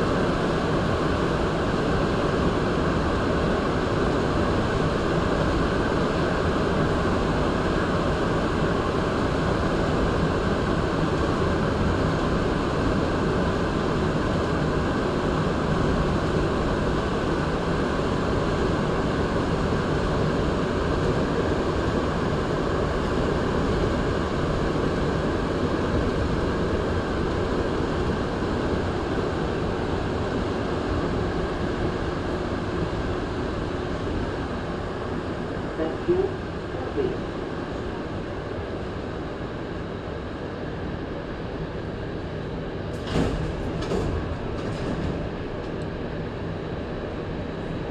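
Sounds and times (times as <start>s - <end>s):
train running through tunnel: 0.0s - 47.9s.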